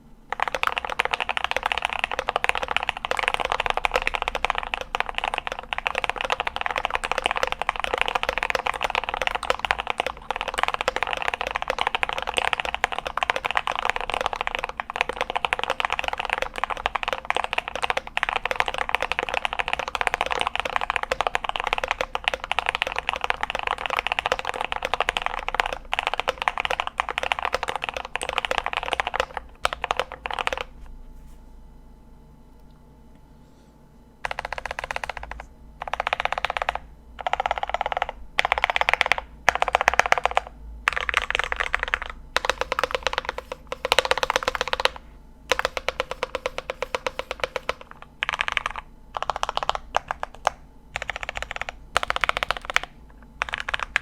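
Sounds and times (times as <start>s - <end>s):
fast mechanical keyboard typing: 0.3s - 30.7s, 34.2s - 54.0s.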